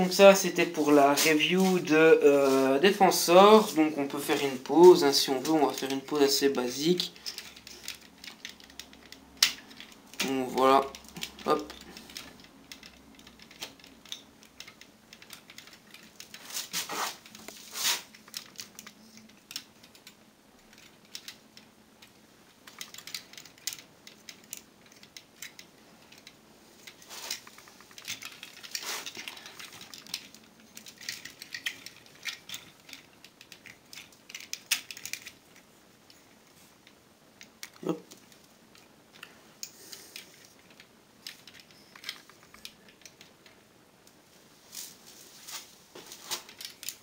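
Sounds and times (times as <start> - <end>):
plastic toy parts clicking: 3.2 - 16.5, 17.2 - 43.6, 46.3 - 47.0.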